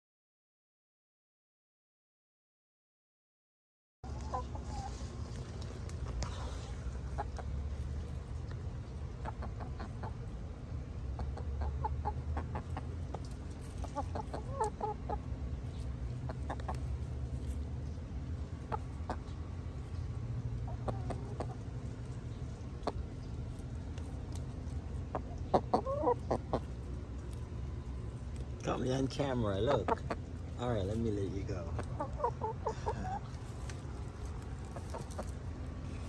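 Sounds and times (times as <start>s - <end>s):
hens clucking: 4.0s - 36.0s
steady low rumble: 4.0s - 36.0s.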